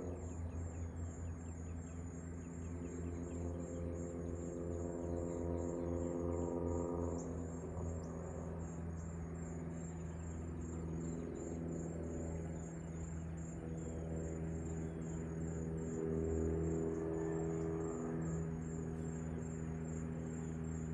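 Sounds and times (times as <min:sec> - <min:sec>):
insects trilling in chorus: 0:00.0 - 0:20.9
steady low hum: 0:00.0 - 0:20.9.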